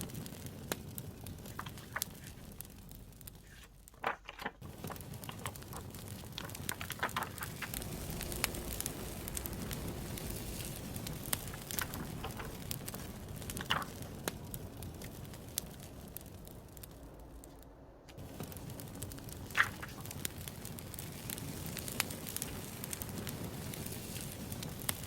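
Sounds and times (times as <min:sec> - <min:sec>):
campfire crackling: 0:00.0 - 0:25.0
sharp pops of fire: 0:00.0 - 0:25.0
steady fire hiss: 0:00.0 - 0:25.0.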